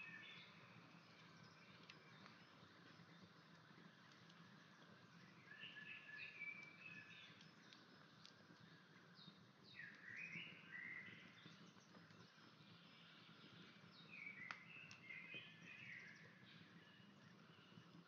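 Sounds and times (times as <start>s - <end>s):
faint birdsong chirping: 0.0s - 18.0s.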